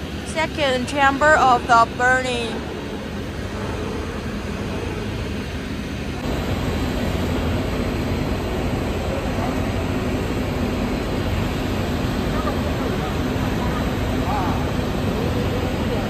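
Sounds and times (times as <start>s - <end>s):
furnace machinery rushing hum: 0.0s - 16.0s.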